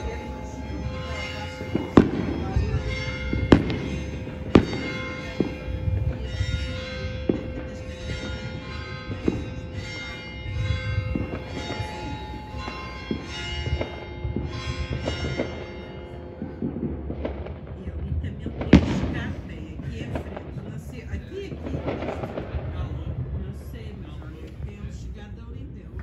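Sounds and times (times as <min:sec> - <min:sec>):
distant fireworks bangs: 0:00.0 - 0:26.0
low rumble: 0:00.0 - 0:26.0
steady ringing tones: 0:00.0 - 0:26.0.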